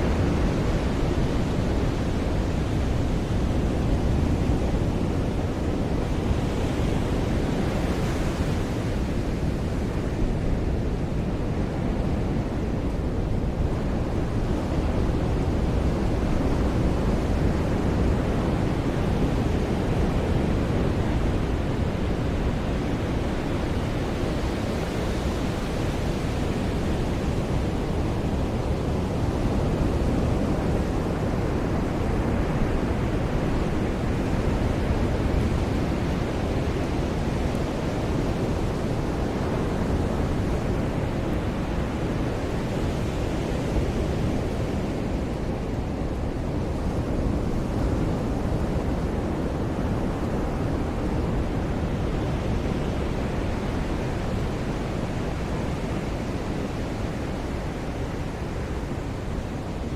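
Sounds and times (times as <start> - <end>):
ocean surf washing onto beach: 0.0 - 59.9.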